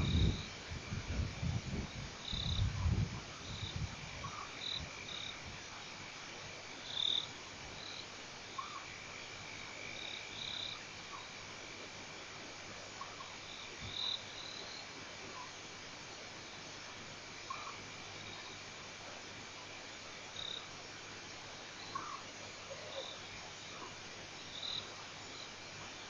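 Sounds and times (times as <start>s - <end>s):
frogs chirping: 0.0s - 0.6s, 1.9s - 11.8s, 12.9s - 18.8s, 19.5s - 26.0s.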